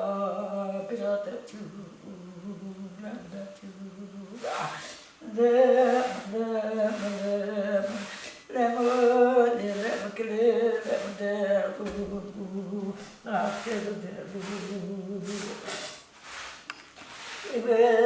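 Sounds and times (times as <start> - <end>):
elderly woman singing a lament: 0.0 - 16.0, 17.4 - 18.0.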